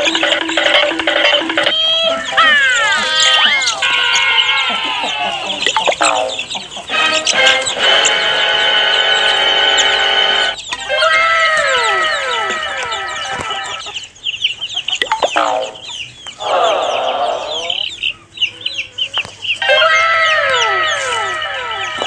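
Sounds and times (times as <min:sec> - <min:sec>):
chickens clucking: 0:00.0 - 0:22.0
chicks peeping: 0:00.0 - 0:22.0.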